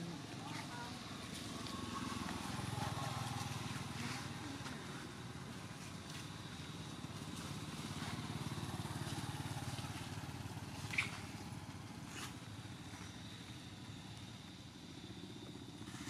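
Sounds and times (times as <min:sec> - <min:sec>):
motor engine running: 0:00.0 - 0:16.0.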